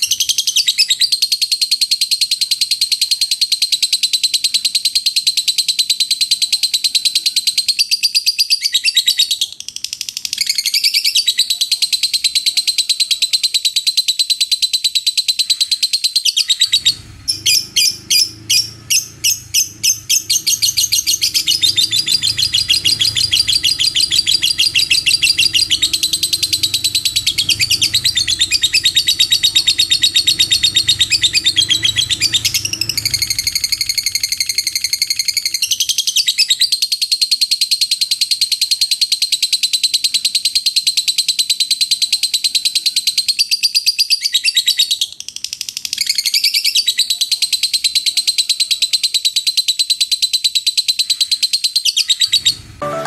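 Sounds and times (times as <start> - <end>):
lovebird chattering trill: 0.0 - 52.8
bird chirps: 0.0 - 53.0.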